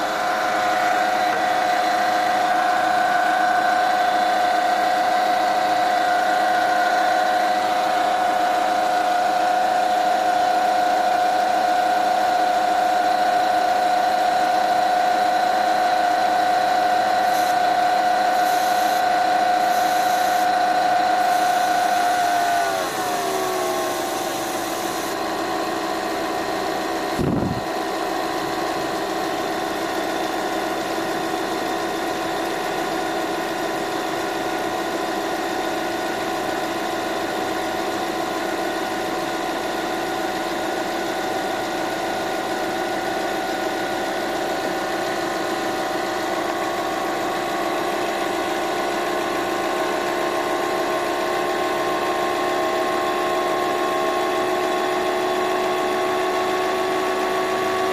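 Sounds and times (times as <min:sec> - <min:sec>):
car engine idling: 0:00.0 - 0:52.6
alternator bearing whine: 0:00.0 - 0:57.9.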